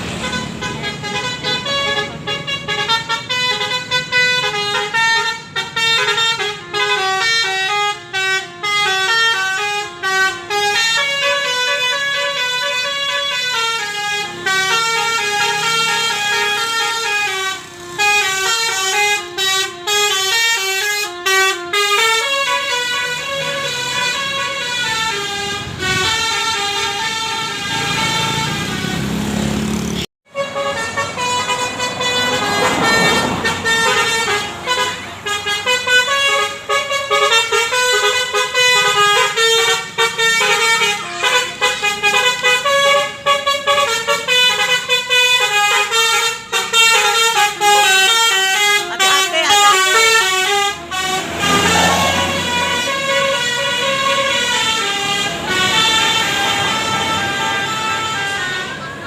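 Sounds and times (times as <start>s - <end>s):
bus engine: 0.0s - 59.0s
multi-tone bus horn tune: 0.0s - 59.0s.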